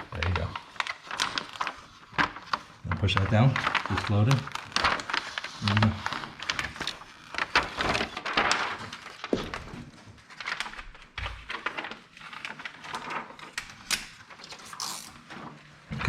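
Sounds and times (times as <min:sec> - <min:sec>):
film rustling: 0:00.0 - 0:16.0.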